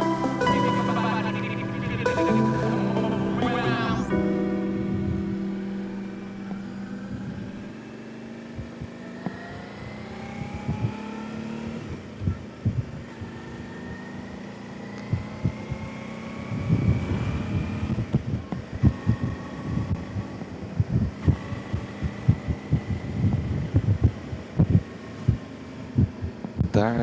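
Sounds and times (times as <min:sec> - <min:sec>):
motorcycle engine accelerating: 0:00.0 - 0:26.6.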